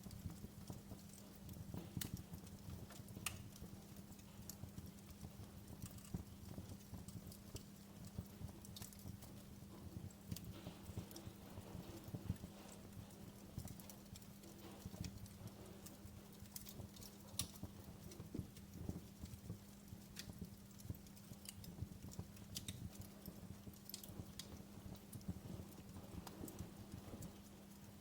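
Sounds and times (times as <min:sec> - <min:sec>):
faint steady hum: 0:00.0 - 0:28.0
wood fire crackling and popping: 0:00.0 - 0:28.0.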